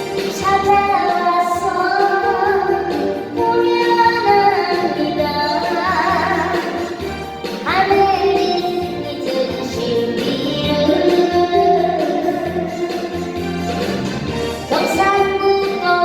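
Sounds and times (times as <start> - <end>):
woman singing: 0.0 - 13.4, 14.6 - 16.0
backing accompaniment track: 0.0 - 16.0.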